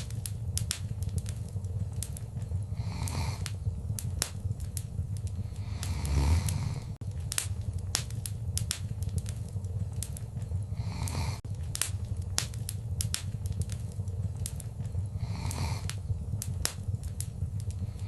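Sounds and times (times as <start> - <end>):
whoosh of flames: 0.0 - 18.0
wood fire crackling: 0.0 - 18.0.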